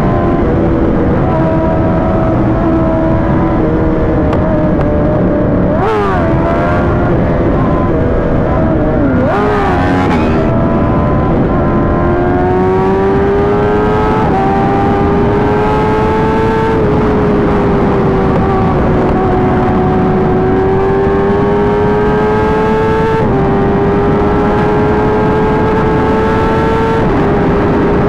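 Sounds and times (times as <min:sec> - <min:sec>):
road noise: 0:00.0 - 0:28.0
rushing wind: 0:00.0 - 0:28.0.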